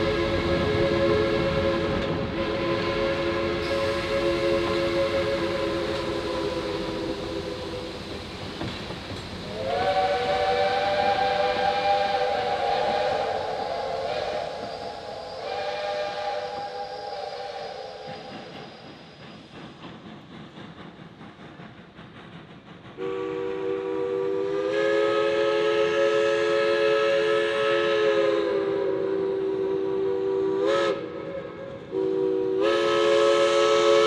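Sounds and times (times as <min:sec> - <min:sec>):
steam locomotive chime whistle: 0:00.0 - 0:19.4, 0:23.0 - 0:34.0.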